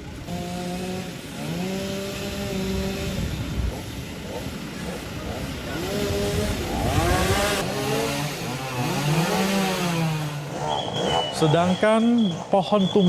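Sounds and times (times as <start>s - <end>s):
small engine revving: 0.0s - 12.6s.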